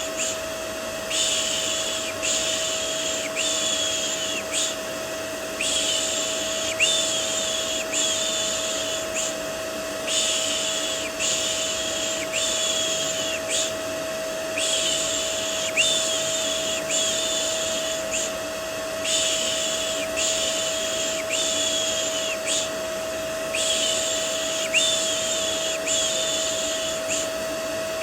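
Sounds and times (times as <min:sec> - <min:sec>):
vacuum cleaner hum: 0:00.0 - 0:28.0.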